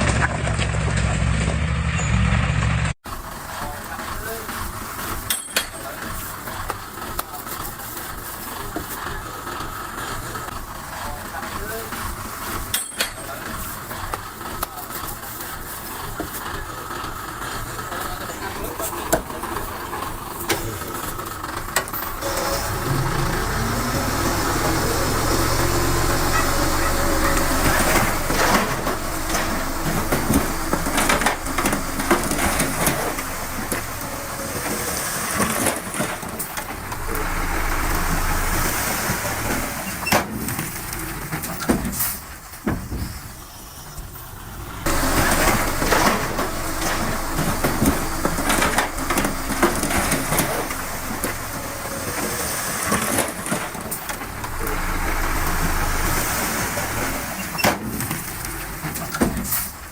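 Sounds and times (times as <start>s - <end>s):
heavy machinery engine under load: 0.0s - 59.9s.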